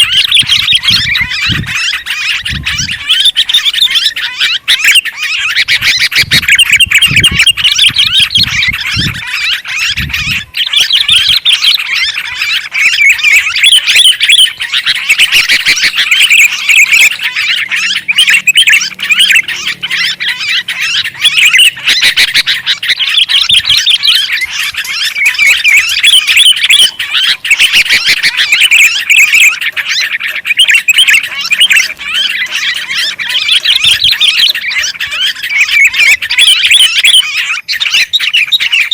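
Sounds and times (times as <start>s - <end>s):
bulbuls chattering loudly: 0.0s - 38.9s.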